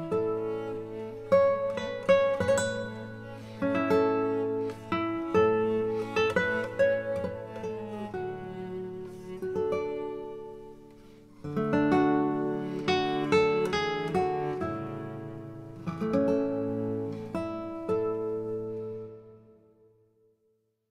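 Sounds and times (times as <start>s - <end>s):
acoustic guitar music: 0.0s - 20.1s.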